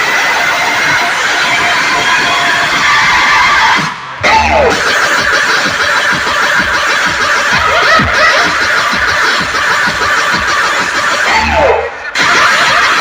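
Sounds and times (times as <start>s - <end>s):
loud sound system music: 0.0s - 13.0s.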